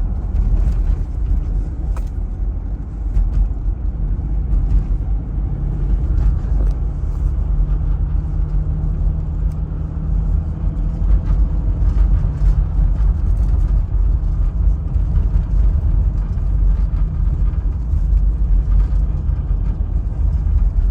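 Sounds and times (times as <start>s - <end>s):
diesel engine drone: 0.0s - 20.9s
road noise: 0.0s - 20.9s.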